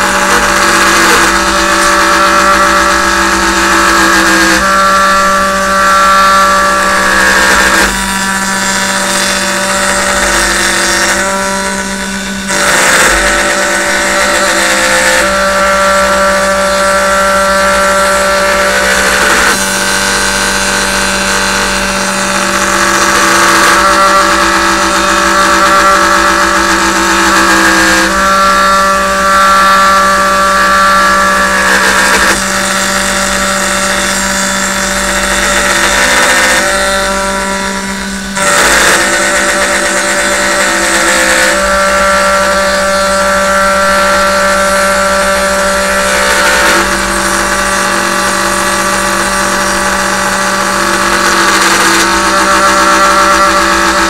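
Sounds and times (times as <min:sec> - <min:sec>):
router spindle steady tone: 0:00.0 - 0:54.0
stepper motors whining: 0:00.0 - 0:54.0.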